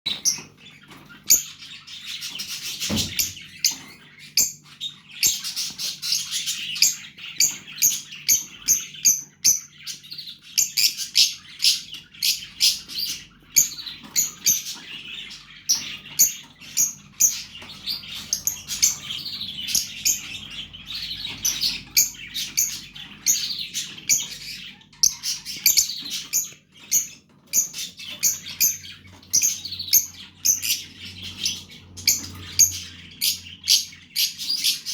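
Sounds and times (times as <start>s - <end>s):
bird chicks chirping: 0.1s - 34.9s.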